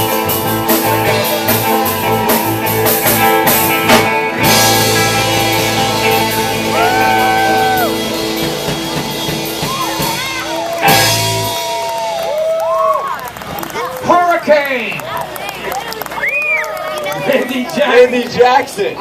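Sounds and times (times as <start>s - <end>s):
rock band playing: 0.0s - 17.7s.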